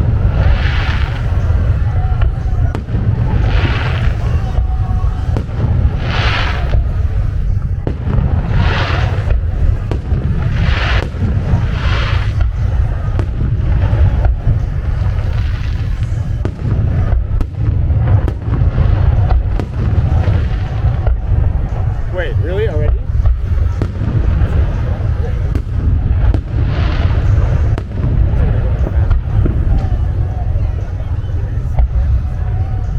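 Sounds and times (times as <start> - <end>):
sharp firework pops: 0.0 - 22.1, 22.7 - 30.4, 31.7 - 32.4
crackling hissing firework bursts: 0.0 - 32.9
fireworks booming: 0.0 - 32.9.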